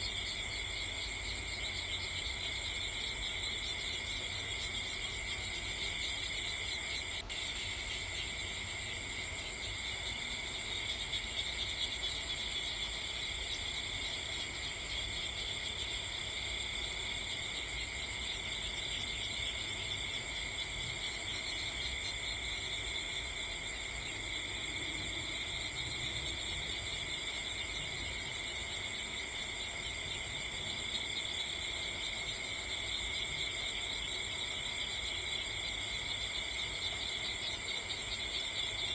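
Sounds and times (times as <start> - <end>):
night insects chirring: 0.0 - 38.9.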